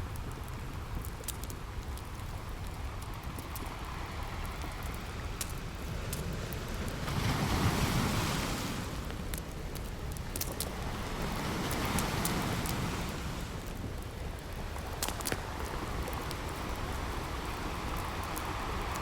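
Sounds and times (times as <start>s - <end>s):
campfire popping and crackling: 0.0s - 19.0s
ocean waves washing ashore: 0.6s - 19.0s.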